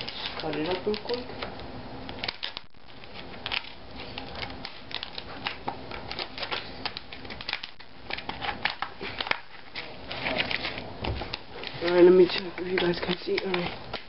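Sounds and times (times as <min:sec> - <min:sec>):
plastic crackling: 0:00.0 - 0:14.0.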